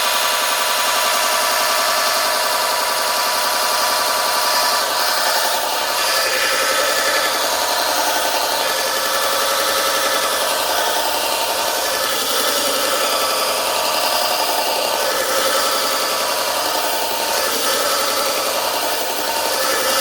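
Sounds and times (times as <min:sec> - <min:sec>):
belt grinder grinding steel: 0:00.0 - 0:20.0.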